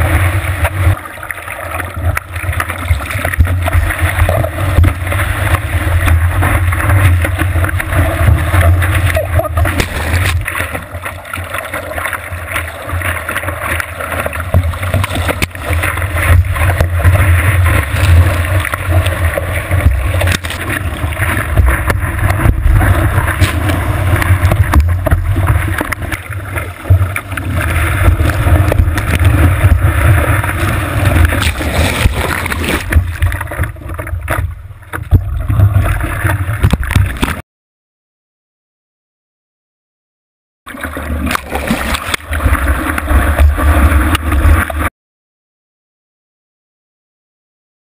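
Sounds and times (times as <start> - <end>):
surf water rushing and splashing: 0.0 - 37.4, 40.7 - 44.9.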